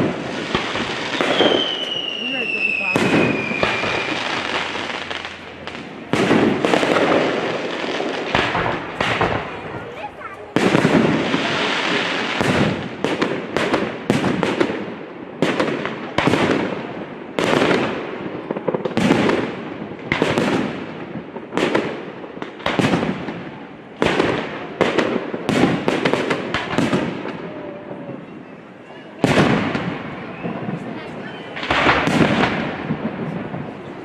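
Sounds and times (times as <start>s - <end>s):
fireworks bangs: 0.0s - 34.0s
rapid fireworks cracks: 0.0s - 34.0s.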